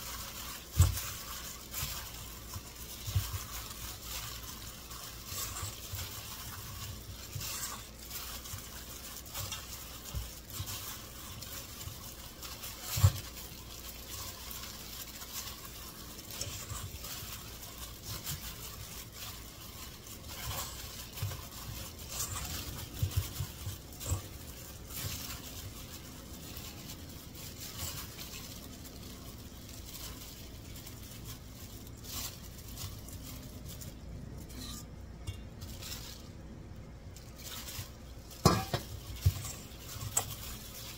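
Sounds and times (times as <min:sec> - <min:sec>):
hand stirring thick batter: 0:00.0 - 0:40.9.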